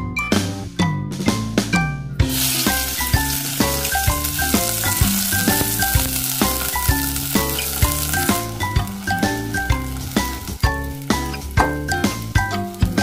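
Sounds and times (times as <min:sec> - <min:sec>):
background music: 0:00.0 - 0:13.0
curry paste sizzling in oil: 0:02.3 - 0:13.0.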